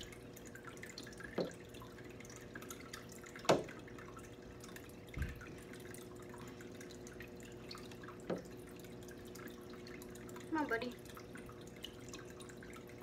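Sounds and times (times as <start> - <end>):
faint steady hum: 0.0 - 13.0
water dripping: 0.0 - 13.0.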